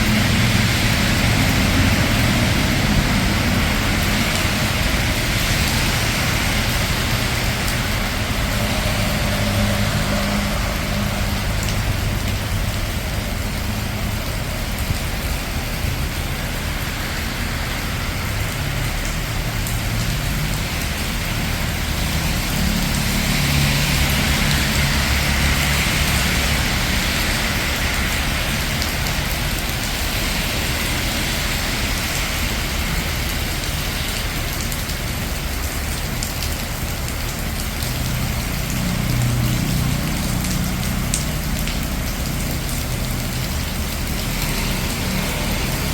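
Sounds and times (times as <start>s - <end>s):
rain on a street: 0.0s - 45.9s
traffic rumble: 0.0s - 45.9s
vehicle passing on wet road: 0.0s - 45.9s.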